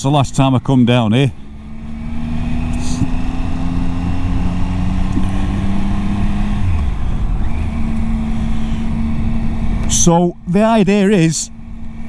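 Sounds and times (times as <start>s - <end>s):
motorcycle engine: 0.0s - 12.0s
steady low rumble: 0.0s - 12.0s.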